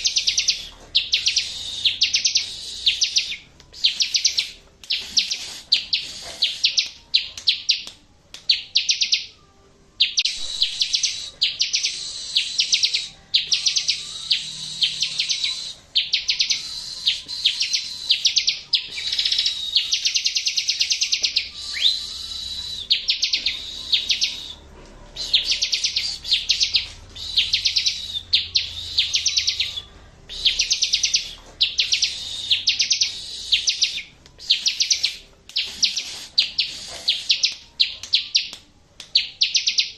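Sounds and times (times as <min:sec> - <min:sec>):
bird song high trills: 0:00.0 - 0:07.8, 0:10.0 - 0:38.5.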